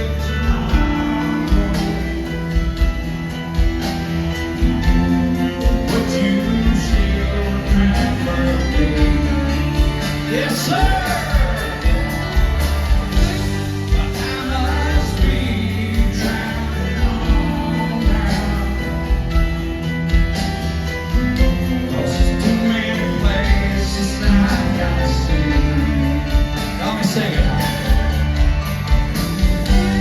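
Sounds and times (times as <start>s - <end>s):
person singing lead vocal: 0.0s - 3.0s, 4.9s - 19.7s, 21.1s - 28.4s
rock band playing slow song: 0.0s - 30.0s
steady drum beat: 0.0s - 30.0s.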